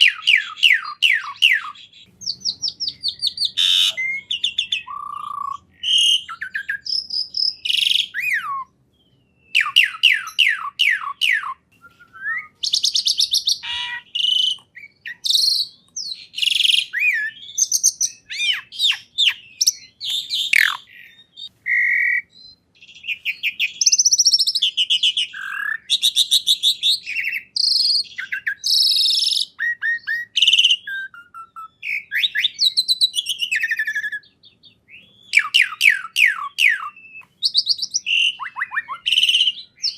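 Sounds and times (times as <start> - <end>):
songbird singing with trills: 0.0 - 39.9.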